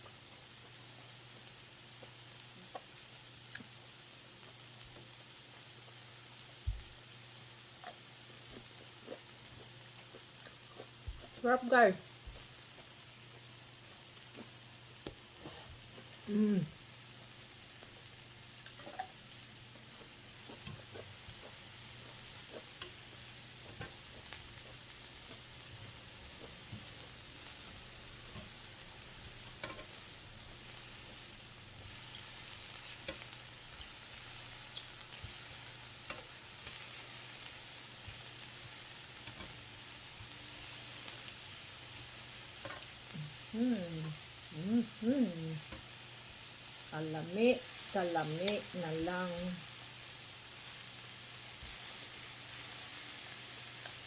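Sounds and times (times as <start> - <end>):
food sizzling on a grill: 0.0 - 54.0.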